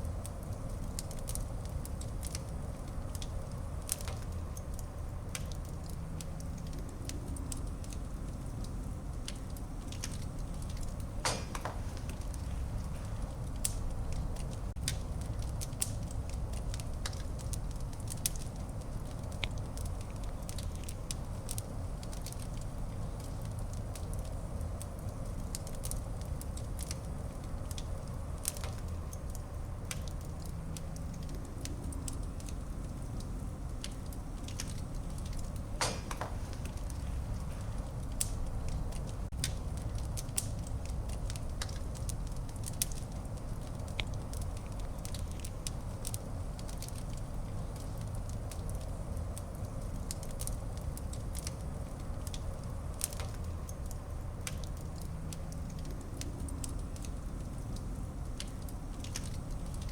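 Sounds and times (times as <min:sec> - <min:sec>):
fire crackles and pops: 0:00.0 - 0:59.9
fire flames rumbling: 0:00.0 - 0:59.9.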